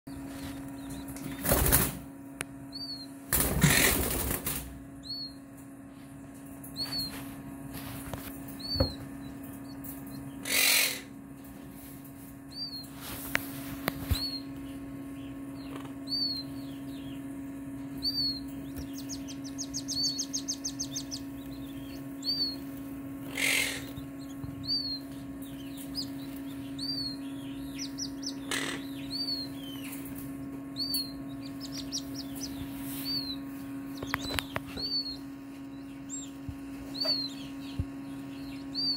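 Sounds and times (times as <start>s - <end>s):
chicks peeping: 0.1s - 38.9s
steady low hum: 0.1s - 38.9s.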